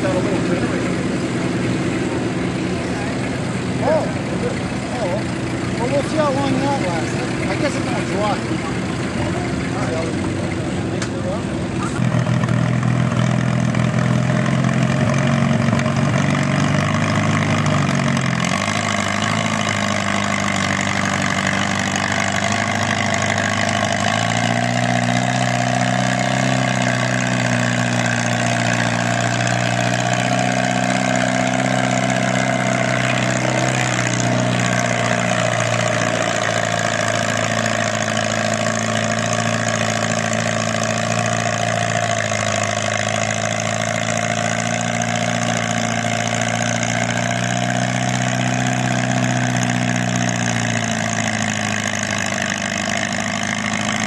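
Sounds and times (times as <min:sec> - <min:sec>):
tractor engine under load: 0:00.0 - 0:54.0.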